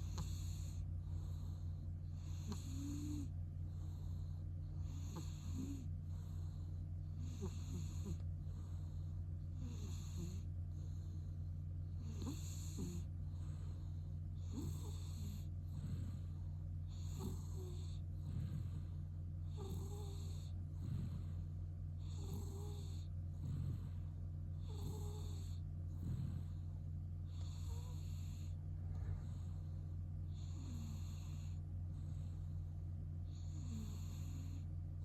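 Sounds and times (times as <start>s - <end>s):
cat snoring with whistling breaths: 0.0s - 35.0s.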